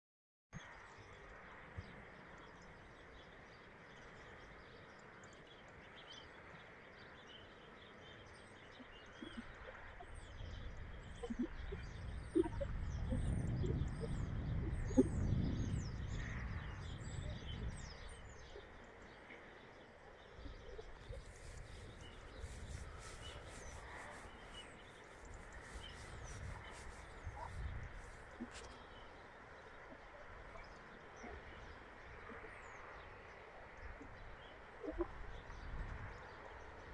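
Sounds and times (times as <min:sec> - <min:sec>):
small birds chirping: 0:00.6 - 0:36.9.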